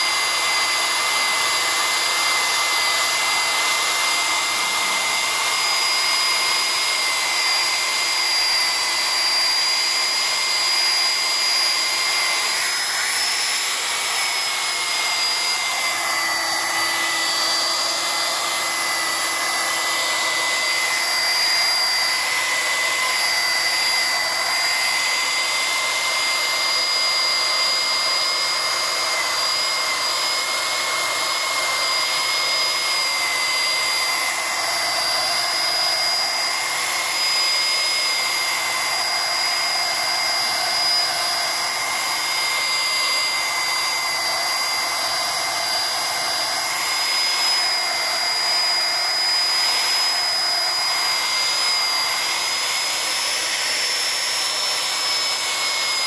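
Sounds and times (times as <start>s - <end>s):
angle grinder polishing acrylic: 0.0s - 56.0s.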